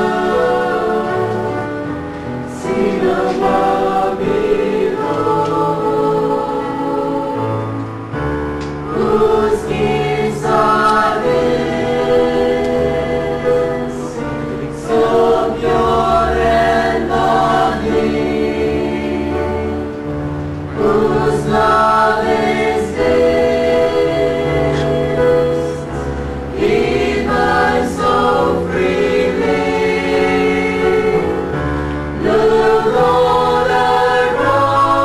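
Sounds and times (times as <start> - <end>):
choir singing in parts: 0.0 - 35.0.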